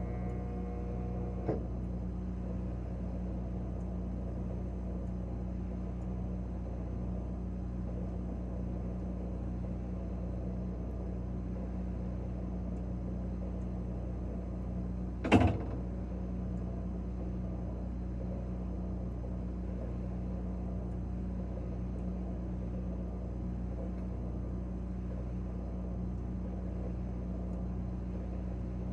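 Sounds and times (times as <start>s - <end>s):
refrigerator hum: 0.0s - 28.9s.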